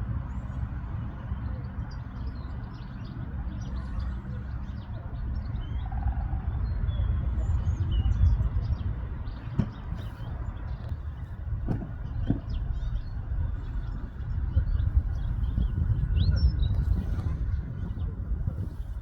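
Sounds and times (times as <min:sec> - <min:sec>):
small birds chirping: 0:00.2 - 0:19.0
low rumble: 0:03.8 - 0:19.0.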